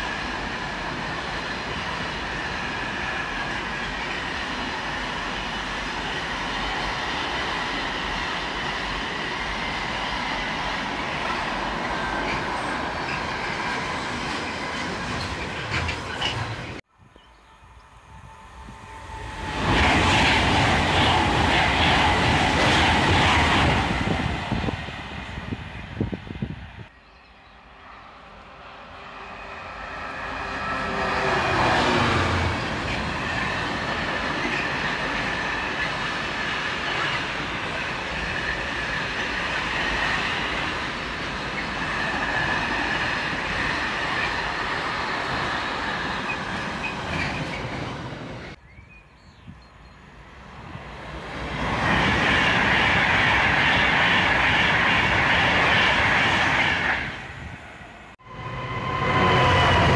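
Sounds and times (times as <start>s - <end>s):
wagons rumbling over rails: 0.0s - 16.8s, 17.9s - 27.6s, 28.2s - 48.6s, 50.2s - 59.9s
diesel locomotive engine passing: 0.0s - 48.6s, 50.0s - 59.9s
electric train rushing past: 0.0s - 48.6s, 50.0s - 59.9s.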